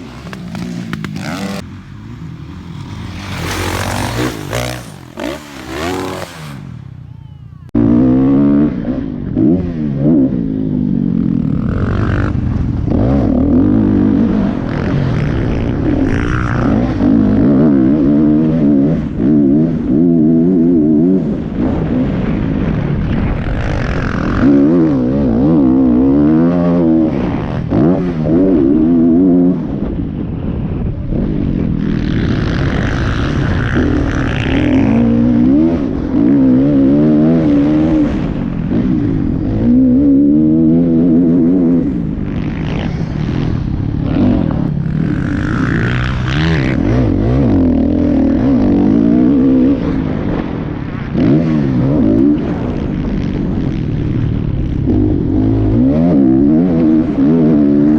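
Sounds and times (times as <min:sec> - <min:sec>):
motocross bike engines revving: 0:00.0 - 0:30.0, 0:30.6 - 0:57.9.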